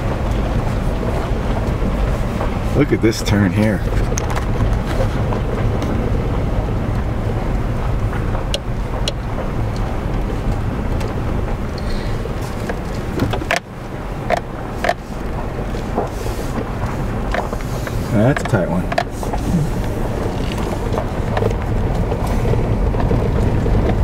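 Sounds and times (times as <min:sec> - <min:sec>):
car engine and tyres rumbling: 0:00.0 - 0:24.0
knocks and rattles from bumps: 0:00.0 - 0:24.0.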